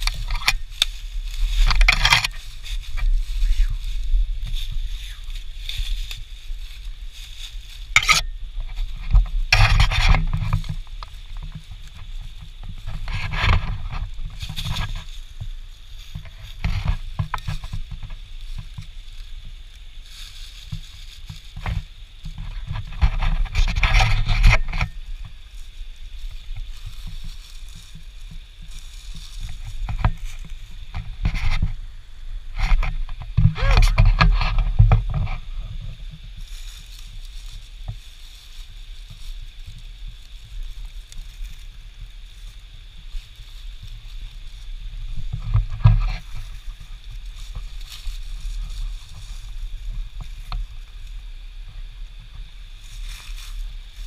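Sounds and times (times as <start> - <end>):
footsteps crunching through dry leaves: 0.0 - 54.0
low wind rumble: 0.0 - 54.0
microphone handling noise: 0.0 - 54.0.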